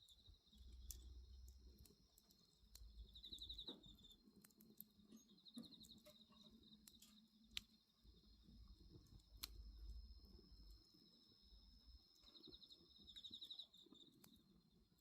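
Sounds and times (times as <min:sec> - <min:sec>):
bonfire crackling and popping: 0:00.0 - 0:11.2, 0:12.0 - 0:15.0
crickets chirring: 0:00.0 - 0:15.0.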